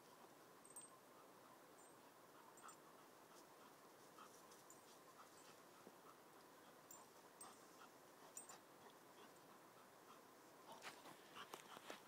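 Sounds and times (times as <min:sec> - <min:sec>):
quiet hiss: 0:00.0 - 0:12.0
dog panting: 0:02.0 - 0:12.0.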